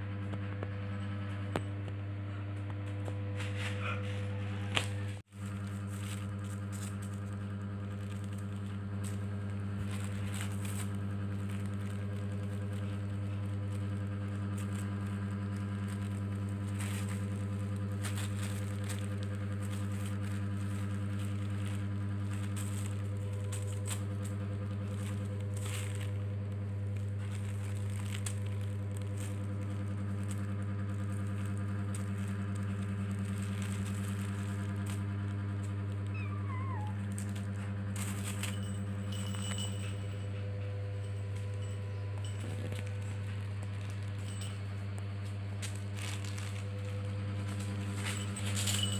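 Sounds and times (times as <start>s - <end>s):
steady low hum: 0.0s - 48.9s
plastic sheet crinkling: 4.7s - 39.7s, 41.2s - 48.9s.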